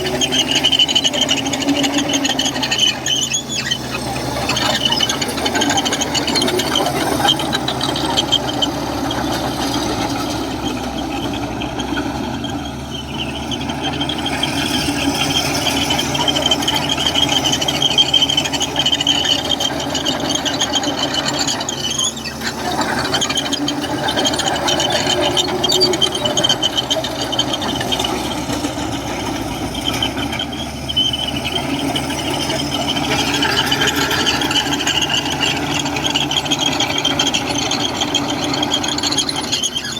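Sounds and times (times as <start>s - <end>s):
bulldozer diesel engine running: 0.0s - 39.9s
wavering high-pitched squeal: 0.0s - 39.9s.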